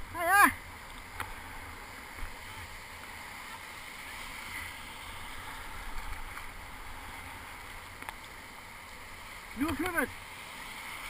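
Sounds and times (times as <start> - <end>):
low rumble of surf: 0.0 - 11.0
surf rushing: 0.0 - 11.0.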